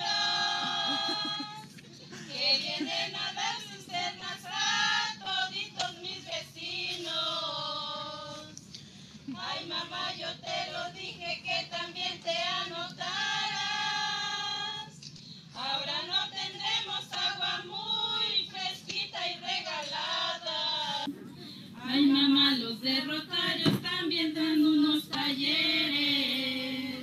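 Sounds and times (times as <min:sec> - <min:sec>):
women singing together: 0:00.0 - 0:08.6, 0:09.3 - 0:21.1, 0:21.8 - 0:27.0.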